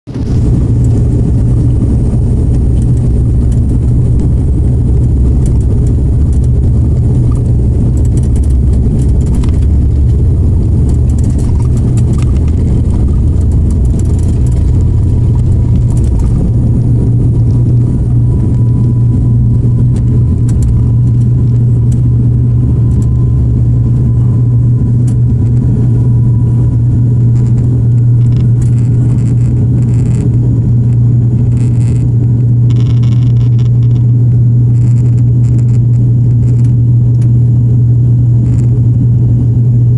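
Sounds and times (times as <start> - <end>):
aircraft engines droning: 0.1 - 39.9.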